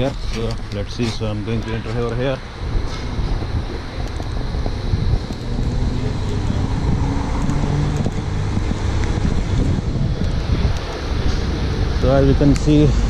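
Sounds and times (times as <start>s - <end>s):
road traffic: 0.0s - 13.0s
wind rumbling on microphone: 0.0s - 13.0s.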